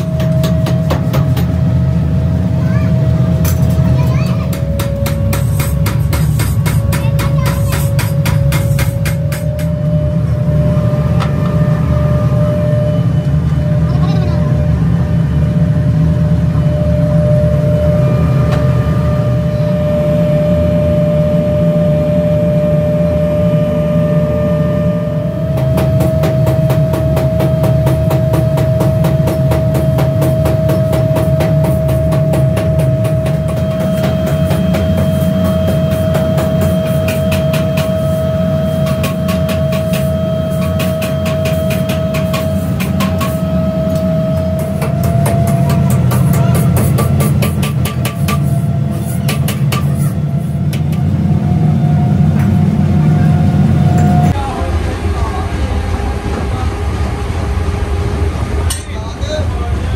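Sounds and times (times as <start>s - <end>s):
machinery hum: 0.0s - 59.9s
machinery whine: 0.0s - 59.9s.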